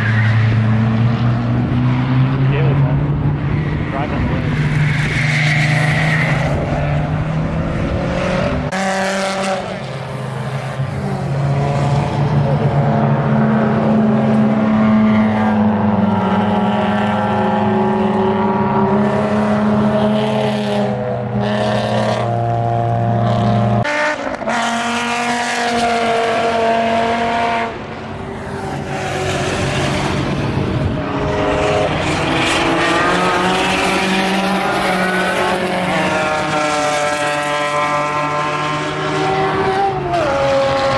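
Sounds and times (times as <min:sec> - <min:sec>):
race car engines accelerating: 0:00.0 - 0:40.9.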